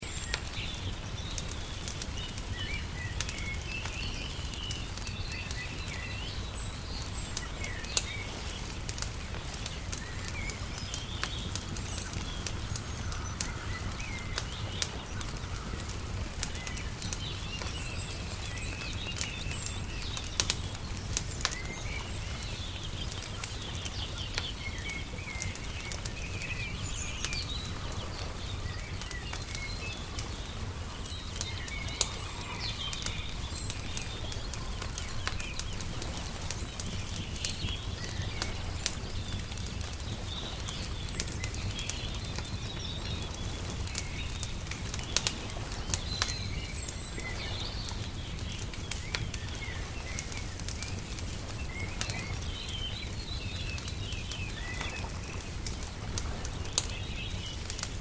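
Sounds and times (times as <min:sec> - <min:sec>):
birds chirping: 0:00.0 - 0:58.0
wood fire crackling: 0:00.0 - 0:58.0.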